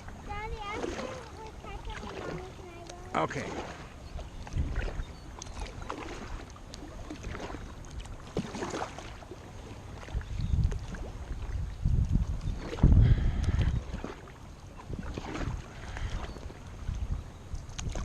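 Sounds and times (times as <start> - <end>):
wind buffeting microphone: 0.0 - 8.3, 9.8 - 18.0
paddle strokes splashing: 0.0 - 18.0.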